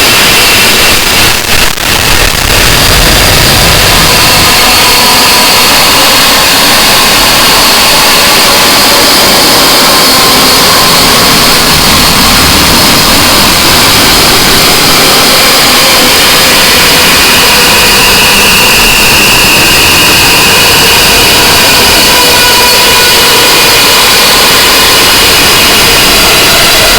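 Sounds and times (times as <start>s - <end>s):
distorted static noise music: 0.0s - 26.9s.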